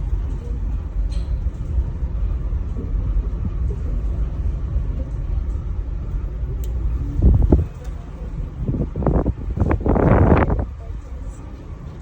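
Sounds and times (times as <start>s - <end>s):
aerial tramway cabin rumbling: 0.0s - 12.0s.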